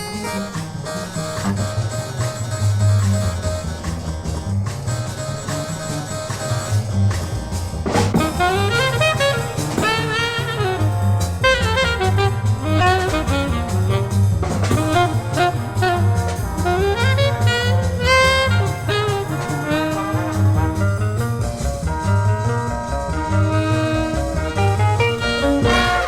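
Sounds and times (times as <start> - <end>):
bass: 0.0 - 26.0
drum kit: 0.0 - 26.0
saxophones and brass: 4.6 - 26.0.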